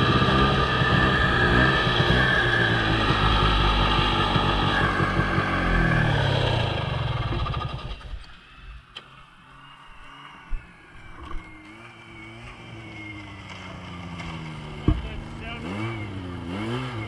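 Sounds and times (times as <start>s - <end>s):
snowmobile engine running: 0.0s - 8.3s, 9.2s - 17.0s.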